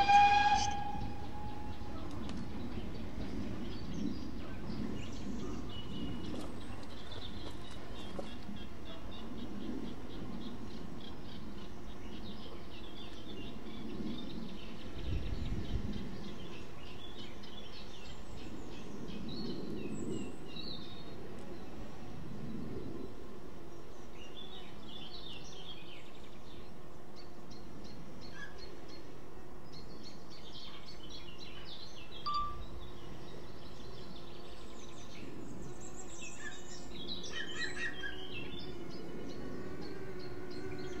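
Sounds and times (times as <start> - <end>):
birds chirping and singing: 0.0 - 21.2, 23.7 - 41.0
steady low background noise: 0.1 - 41.0.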